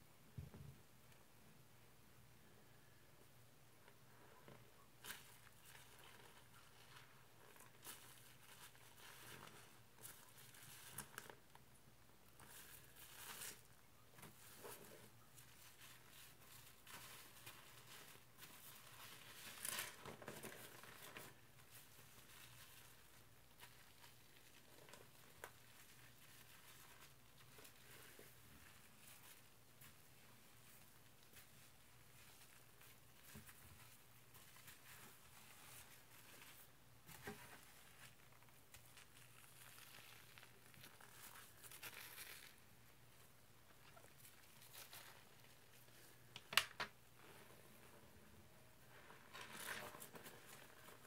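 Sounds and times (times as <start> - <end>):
soap foam crackling and squishing: 5.0 - 51.0.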